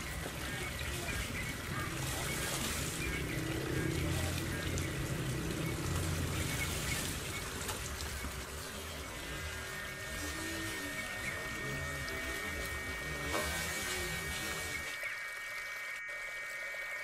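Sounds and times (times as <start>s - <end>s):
thin stream of water splashing: 0.0s - 16.0s.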